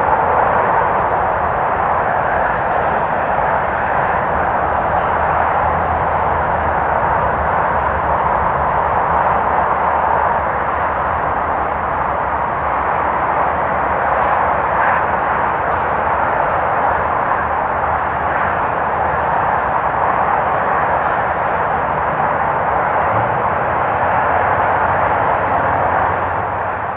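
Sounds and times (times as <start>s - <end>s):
distant freeway traffic: 0.0s - 26.9s.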